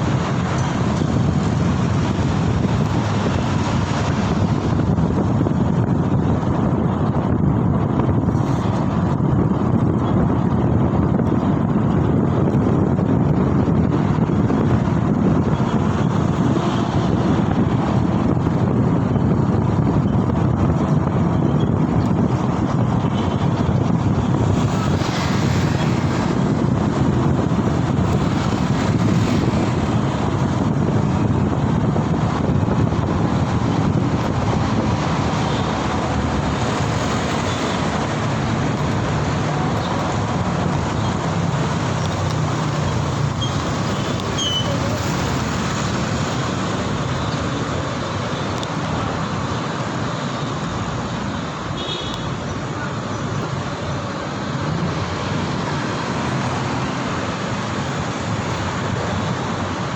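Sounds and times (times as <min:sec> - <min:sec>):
city traffic rumble: 0:00.0 - 0:59.9
wind on microphone: 0:00.0 - 0:59.9.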